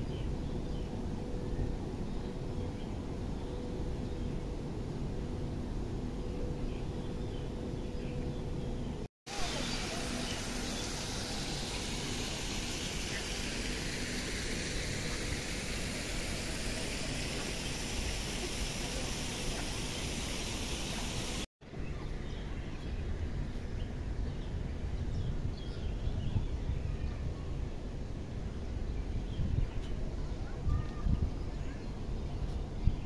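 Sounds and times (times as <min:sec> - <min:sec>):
continuous outdoor hiss: 0:00.0 - 0:33.0.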